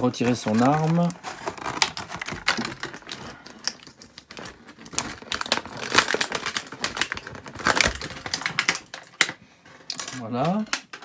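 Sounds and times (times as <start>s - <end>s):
plastic packaging clicks and crinkling: 0.0s - 11.0s.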